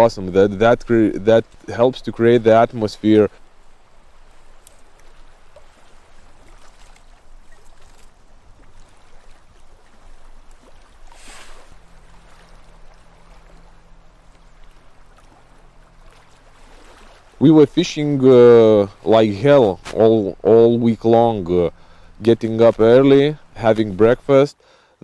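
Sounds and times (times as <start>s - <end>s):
low steady hum: 0.0s - 24.9s
flowing water: 0.0s - 25.0s.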